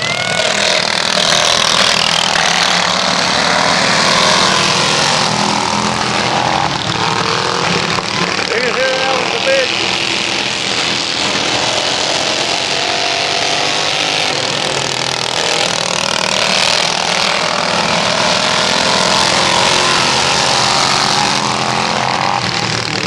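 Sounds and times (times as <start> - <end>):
small engines at high revs: 0.0 - 23.0.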